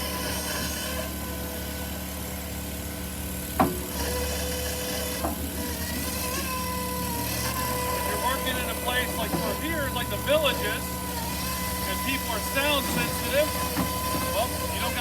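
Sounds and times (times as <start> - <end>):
electric machine whine: 0.0 - 15.0.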